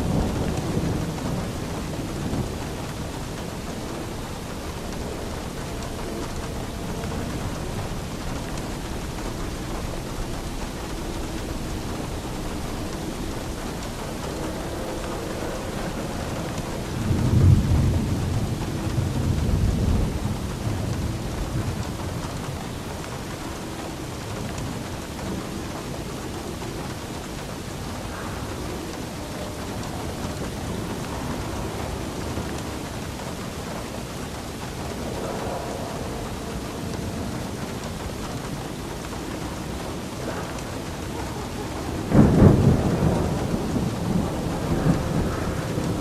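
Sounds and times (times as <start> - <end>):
steady rain: 0.0 - 46.0
thunder rumbling: 0.0 - 46.0.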